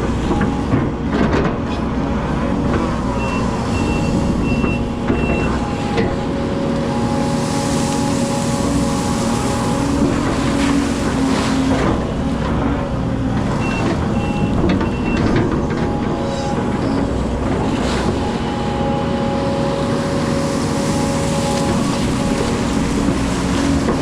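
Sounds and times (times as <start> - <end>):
excavator diesel engine: 0.0 - 24.0
hydraulic whine: 0.0 - 24.0.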